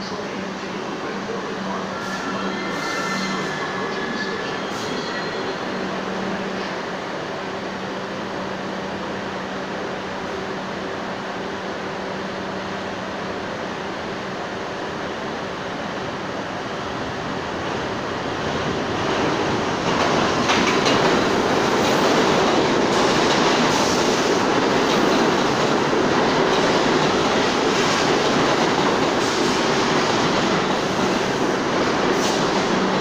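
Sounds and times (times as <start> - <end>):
subway train wheels rumbling on rails: 0.0 - 33.0.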